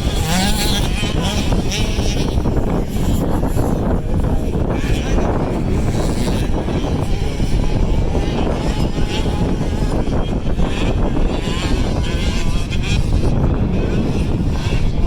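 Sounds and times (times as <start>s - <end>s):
motocross bikes racing: 0.0s - 15.0s.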